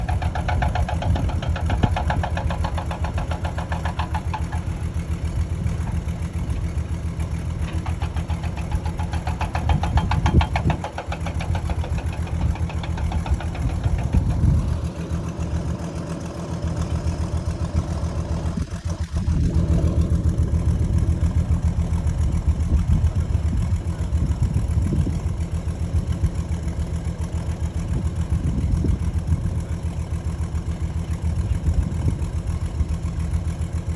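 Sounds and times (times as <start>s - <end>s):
engine running with low pulsing: 0.0s - 33.9s.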